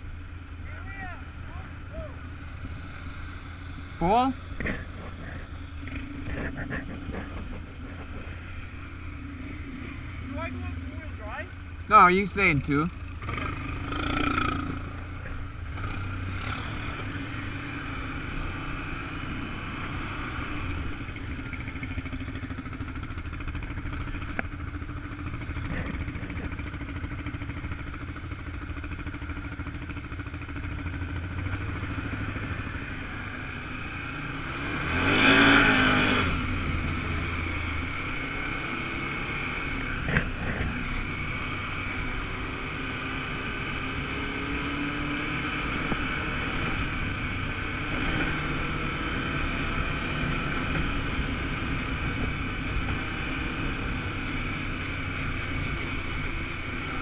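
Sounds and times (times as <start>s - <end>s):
atv engine droning: 0.0s - 57.0s.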